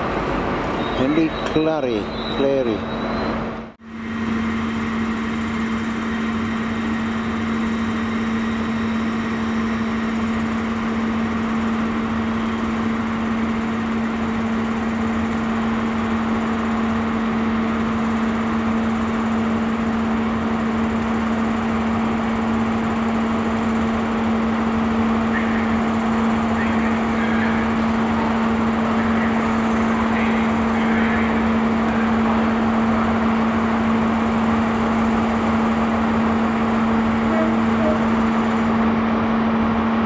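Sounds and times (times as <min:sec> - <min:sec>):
trains idling hum: 0:00.0 - 0:40.0.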